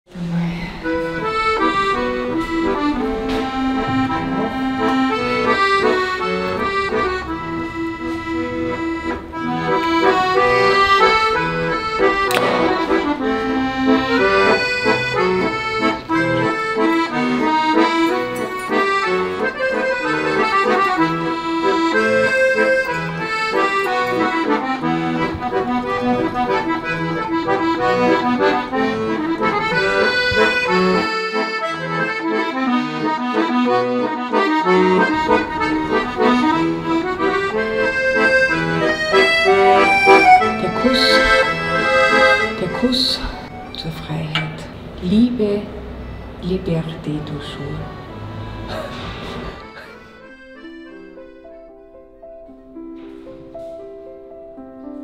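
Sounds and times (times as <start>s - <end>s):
instrumental background music: 0.9s - 45.6s, 47.3s - 55.0s.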